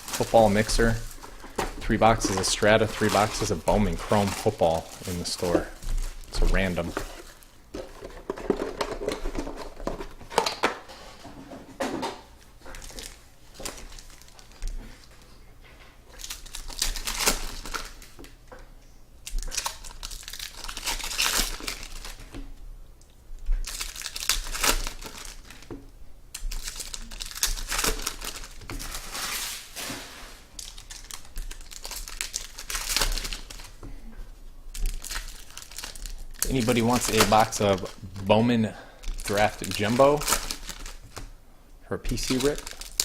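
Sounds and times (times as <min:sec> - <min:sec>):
plastic wrapping crinkling and tearing: 0:00.0 - 0:10.7, 0:12.6 - 0:15.2, 0:16.1 - 0:18.4, 0:19.2 - 0:22.4, 0:23.6 - 0:25.7, 0:26.3 - 0:33.8, 0:34.7 - 0:41.3, 0:42.1 - 0:43.0.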